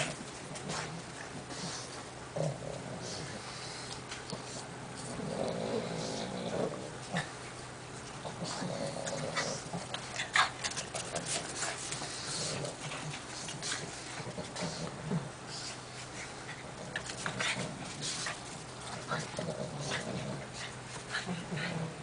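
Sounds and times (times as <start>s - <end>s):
dog grunting and snuffling: 0.0s - 7.5s, 8.1s - 22.0s.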